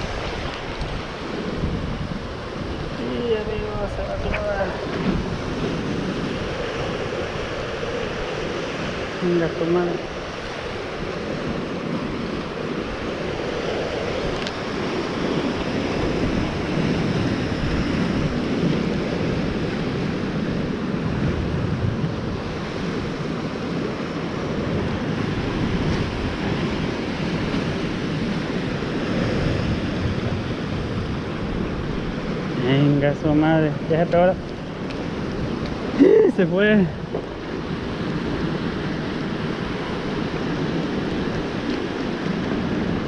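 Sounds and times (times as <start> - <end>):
waves and surf: 0.0 - 43.0
wind buffeting microphone: 0.0 - 43.0.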